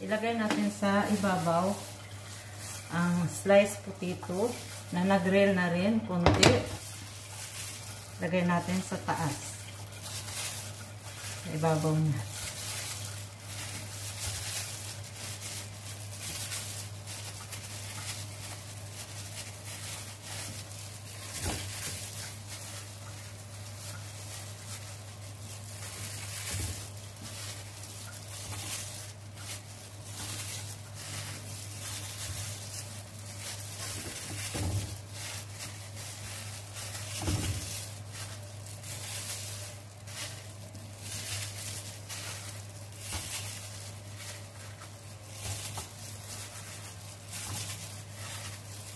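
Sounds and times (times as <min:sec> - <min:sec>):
crackly food handling: 0:00.0 - 0:48.9.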